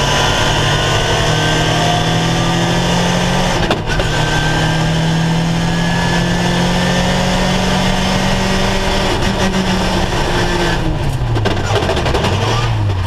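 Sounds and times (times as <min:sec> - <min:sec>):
race car engine from cockpit: 0:00.0 - 0:13.0.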